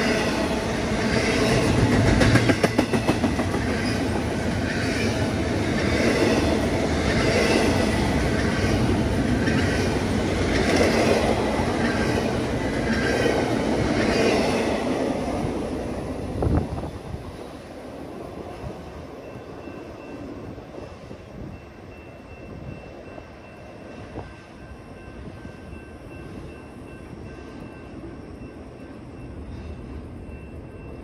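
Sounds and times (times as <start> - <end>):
freight train rumble: 0.0 - 31.0.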